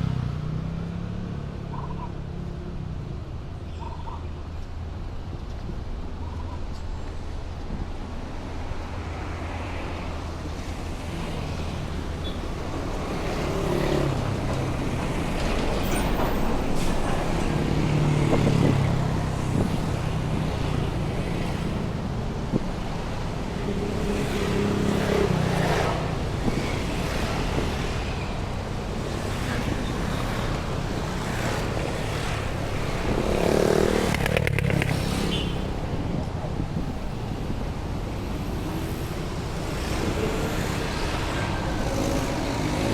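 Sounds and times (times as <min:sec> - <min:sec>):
traffic hum: 0:00.0 - 0:42.9
vehicles passing close by: 0:00.0 - 0:42.9.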